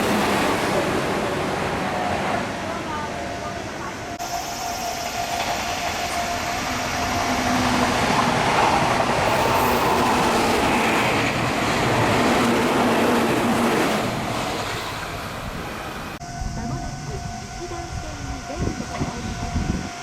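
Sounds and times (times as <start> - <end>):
electric train passing at speed: 0.0 - 20.0.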